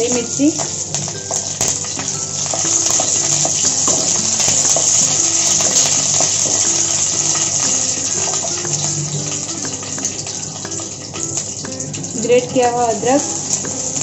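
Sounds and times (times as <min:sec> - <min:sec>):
crackles and pops of frying: 0:00.0 - 0:14.0
oil sizzling: 0:00.0 - 0:14.0.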